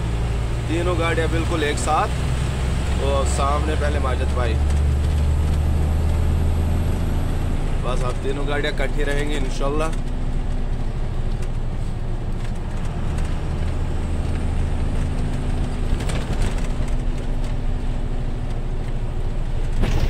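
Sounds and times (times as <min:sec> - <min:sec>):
road noise: 0:00.0 - 0:20.0
truck engine drone: 0:00.0 - 0:20.0.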